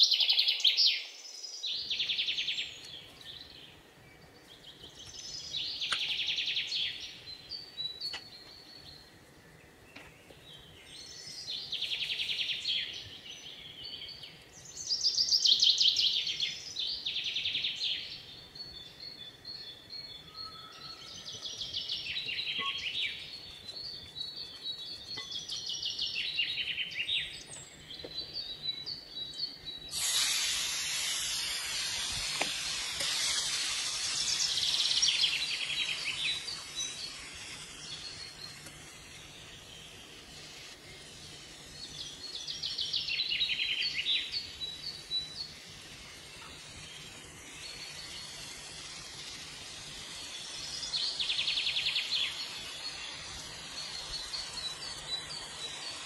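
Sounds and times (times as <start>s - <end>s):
bird song descending trills: 0.0s - 30.0s, 33.2s - 56.0s.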